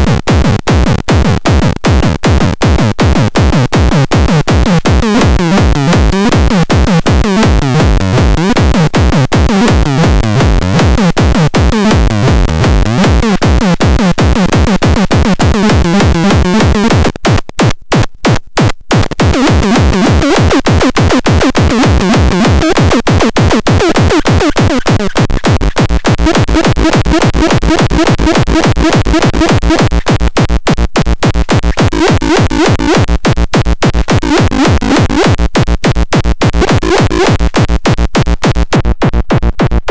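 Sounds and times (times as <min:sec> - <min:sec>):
minimal techno music: 0:00.0 - 0:39.9.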